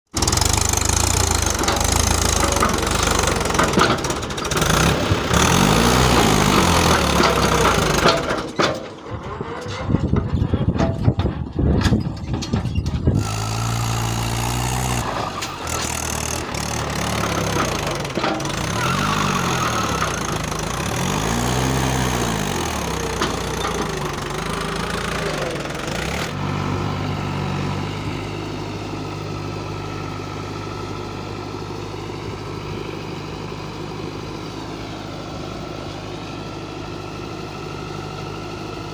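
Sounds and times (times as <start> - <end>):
tractor diesel engine revving: 0.1 - 11.7, 12.3 - 38.9.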